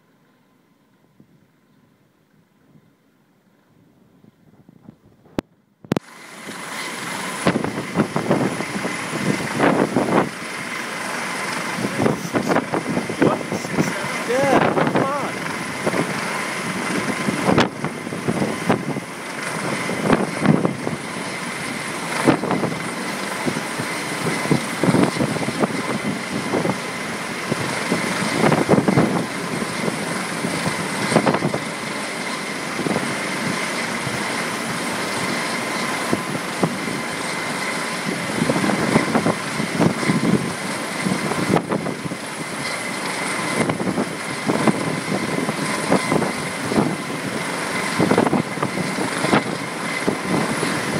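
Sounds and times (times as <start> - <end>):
helicopter engine and rotor: 6.0 - 50.9.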